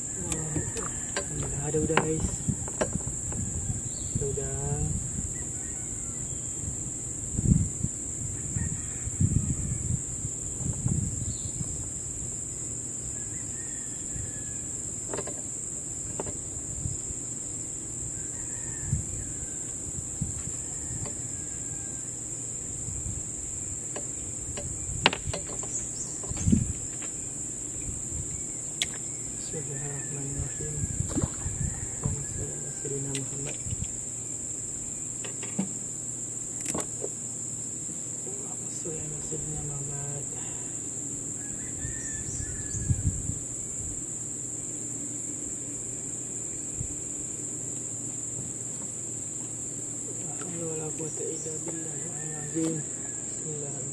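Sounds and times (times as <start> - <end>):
crickets chirping: 0.0 - 53.9
insects chorus: 0.0 - 53.9.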